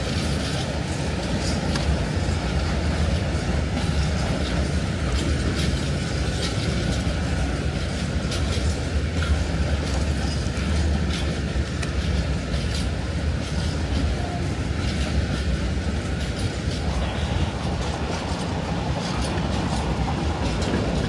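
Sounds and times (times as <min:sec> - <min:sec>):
freight train wagons rumbling: 0:00.0 - 0:21.0
wheels clicking over rails: 0:00.0 - 0:21.0.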